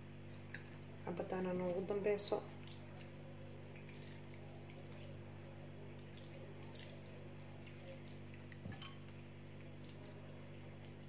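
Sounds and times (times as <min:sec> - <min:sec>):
hands squelching raw chicken: 0:00.2 - 0:11.0.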